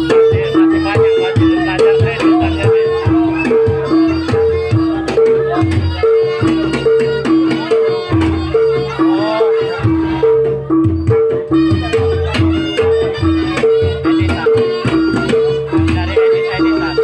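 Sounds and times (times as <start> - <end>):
wavering melody line: 0.0 - 17.0.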